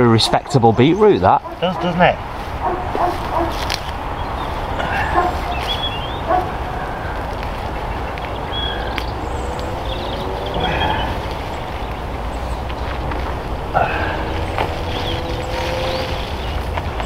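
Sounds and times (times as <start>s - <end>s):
distant animals chirping: 0.0s - 16.7s.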